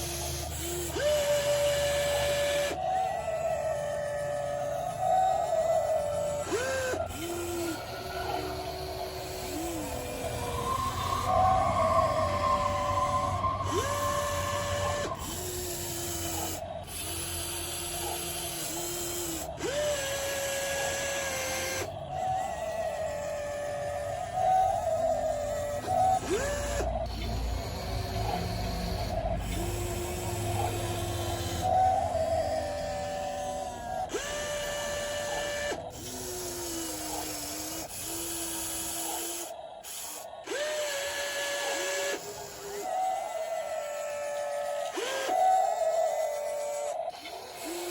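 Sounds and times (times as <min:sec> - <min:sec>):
electric gear motors whining: 0:00.0 - 0:47.9.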